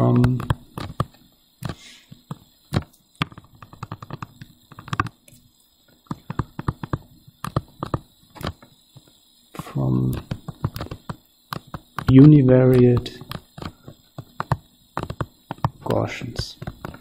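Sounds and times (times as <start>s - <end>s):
stylus tapping on tablet screen: 0.2s - 5.2s, 6.1s - 9.1s, 10.1s - 17.0s.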